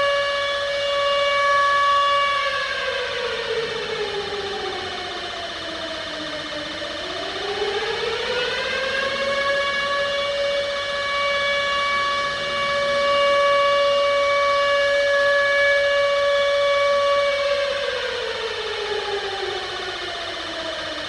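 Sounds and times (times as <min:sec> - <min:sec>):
civil defense siren: 0:00.0 - 0:21.0.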